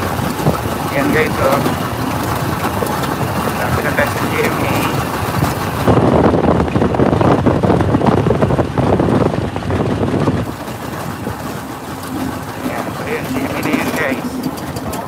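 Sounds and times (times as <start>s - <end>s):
motorcycle engine running: 0.0s - 15.0s
road noise: 0.0s - 15.0s
wind buffeting microphone: 0.0s - 15.0s.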